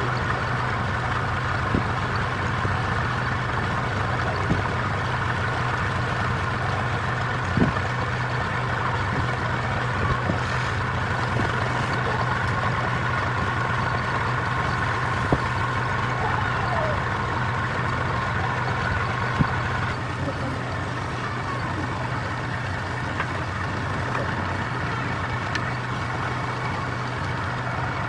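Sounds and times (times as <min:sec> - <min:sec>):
wood lathe motor humming: 0:00.0 - 0:28.0.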